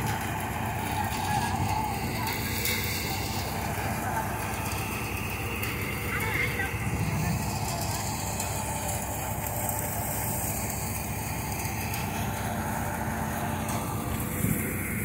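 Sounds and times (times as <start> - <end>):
diesel engine droning: 0.0 - 15.0
thresher drum rushing: 0.0 - 15.0.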